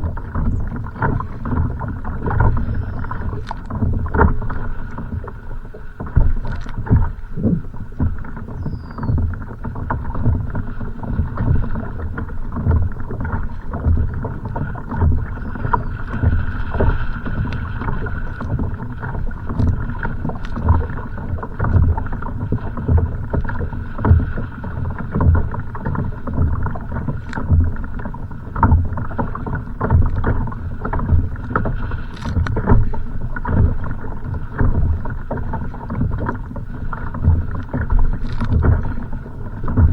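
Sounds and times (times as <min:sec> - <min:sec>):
water slapping against a kayak: 0:00.0 - 0:39.9
wind buffeting the microphone: 0:00.0 - 0:39.9.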